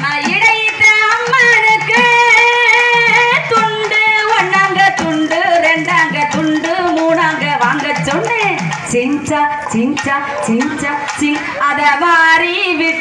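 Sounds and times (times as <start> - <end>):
steady drum beat: 0.0 - 12.9.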